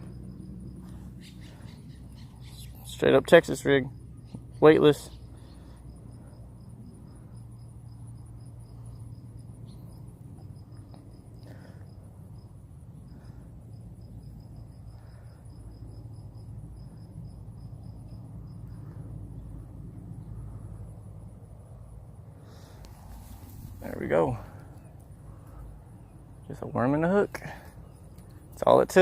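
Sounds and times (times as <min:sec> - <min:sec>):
crickets chirping: 0:00.0 - 0:29.0
low steady rumble: 0:00.0 - 0:29.0.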